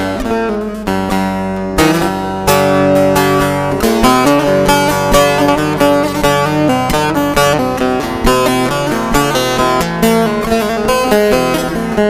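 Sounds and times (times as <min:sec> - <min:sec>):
plucked string instrument run: 0:00.0 - 0:12.0.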